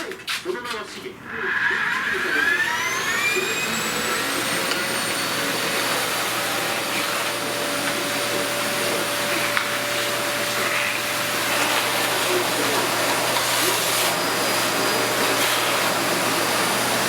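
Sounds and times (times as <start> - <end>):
vacuum cleaner running: 1.2 - 17.0.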